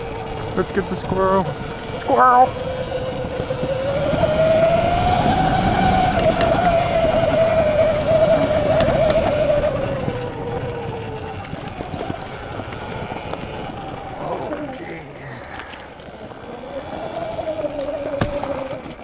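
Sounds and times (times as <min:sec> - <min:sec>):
electric motor whining: 0:00.0 - 0:19.0
tyre and trail noise: 0:00.0 - 0:19.0.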